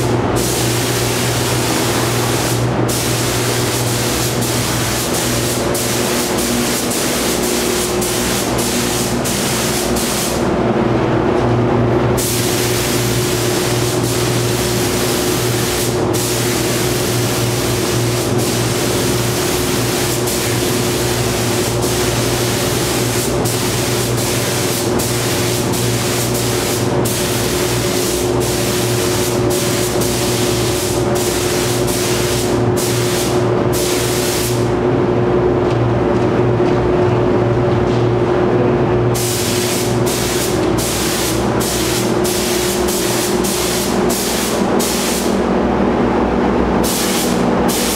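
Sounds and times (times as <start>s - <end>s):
paint spray gun hissing: 0.0s - 10.4s, 12.2s - 34.7s, 39.2s - 45.4s, 46.8s - 47.9s
steady low hum: 0.0s - 47.9s.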